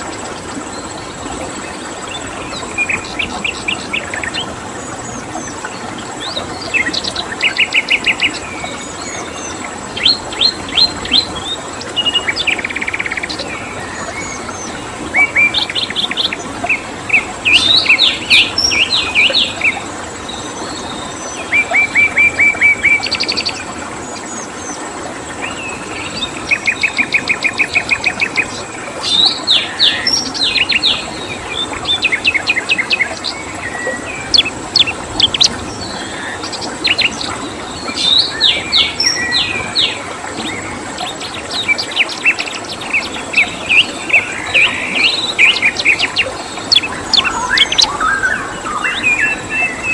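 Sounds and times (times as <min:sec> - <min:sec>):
flowing water hiss: 0:00.0 - 0:49.9
songbirds trilling and chirping: 0:00.0 - 0:49.9.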